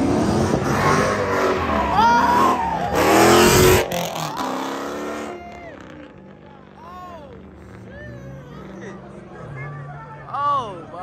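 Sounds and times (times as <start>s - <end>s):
car engines revving and accelerating: 0.0s - 11.0s.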